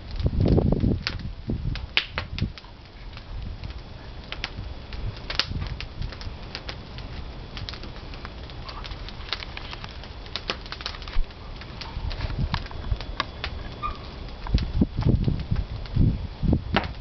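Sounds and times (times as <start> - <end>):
low rumble of fire: 0.0 - 17.0
wood crackling and popping: 0.0 - 17.0.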